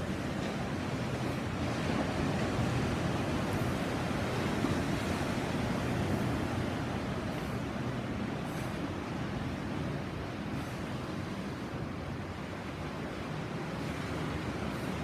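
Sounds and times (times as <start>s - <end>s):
sea surf breaking on shore: 0.0s - 15.0s.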